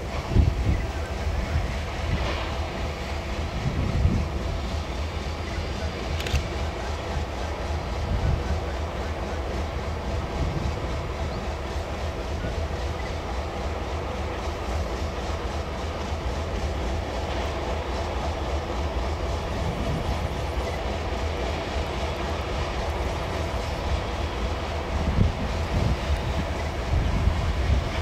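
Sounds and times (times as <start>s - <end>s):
diesel locomotive engine running: 0.0s - 28.0s.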